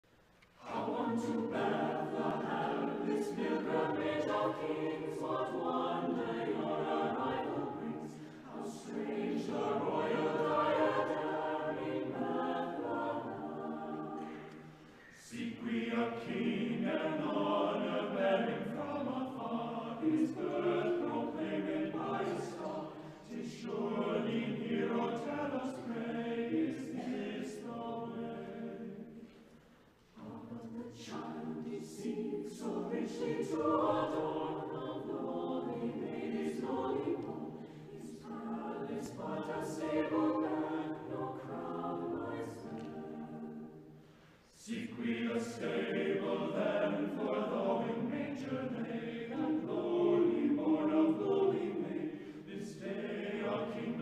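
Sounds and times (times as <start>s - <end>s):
choir singing unaccompanied: 0.6s - 54.0s.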